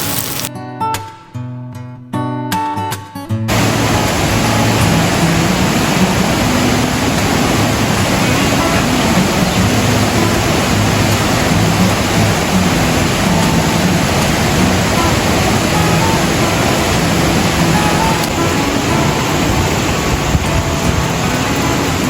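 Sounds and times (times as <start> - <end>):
rushing water: 0.0 - 0.5, 3.5 - 22.0.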